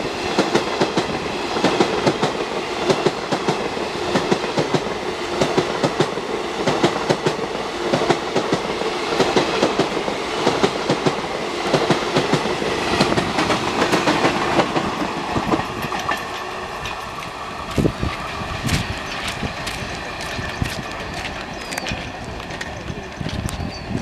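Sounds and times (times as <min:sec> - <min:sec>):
rumble of train cars: 0:00.0 - 0:24.0
train wheels clattering: 0:00.3 - 0:24.0.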